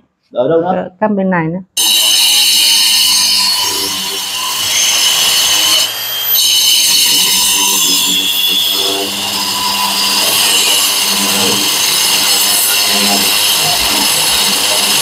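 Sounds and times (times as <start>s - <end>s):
wall chaser whining and grinding: 1.8s - 15.0s.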